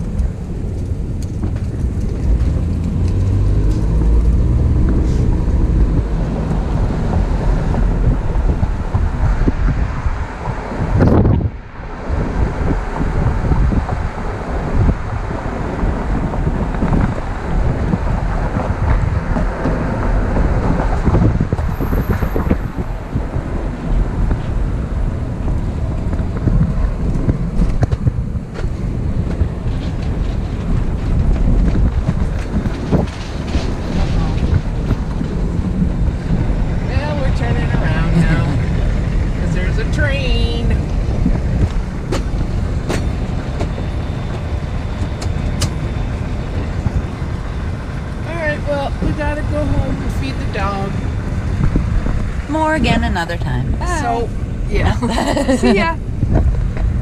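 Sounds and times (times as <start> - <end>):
vehicle engine rumbling: 0.0 - 57.0
wind buffeting microphone: 0.0 - 57.0.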